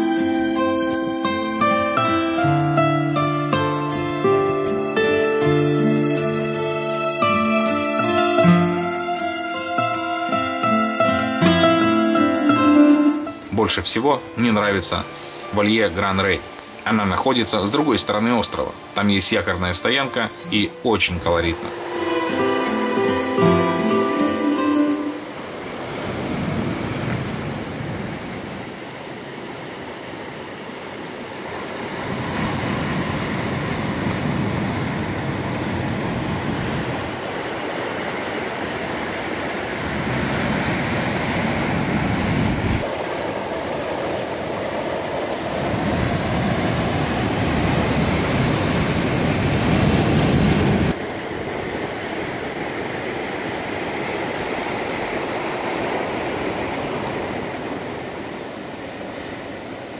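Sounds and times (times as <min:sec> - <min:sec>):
ocean surf breaking on rocks: 0:00.0 - 0:59.9.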